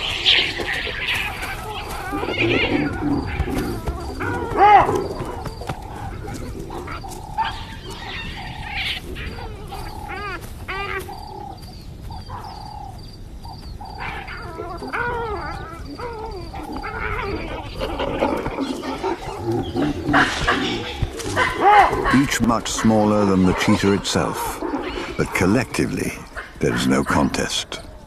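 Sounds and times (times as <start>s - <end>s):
faint steady background: 0.0s - 28.0s.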